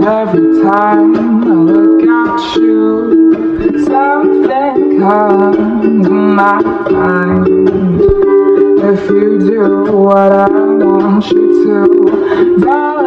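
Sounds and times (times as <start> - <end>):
person singing: 0.0 - 13.0
plucked strings: 0.0 - 13.0.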